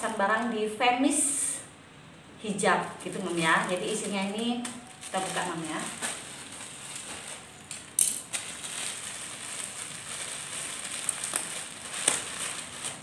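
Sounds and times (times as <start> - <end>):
plastic mailer bag crinkling: 0.0 - 0.8, 2.6 - 13.0.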